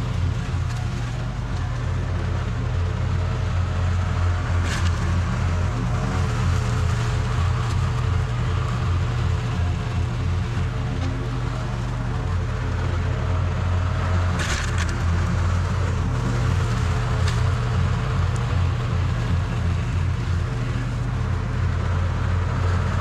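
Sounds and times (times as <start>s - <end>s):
riding mower running: 0.0s - 23.0s.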